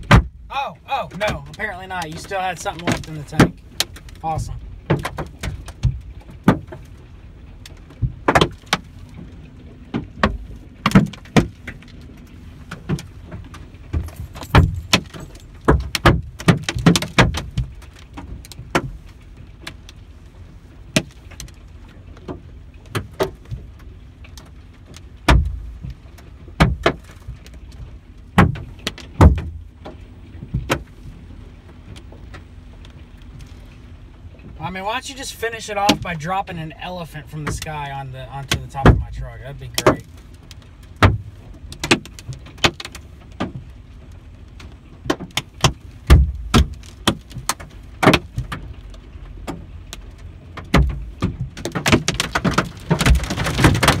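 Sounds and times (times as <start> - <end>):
hailstones hitting truck roof: 0.0 - 33.7, 34.4 - 54.0.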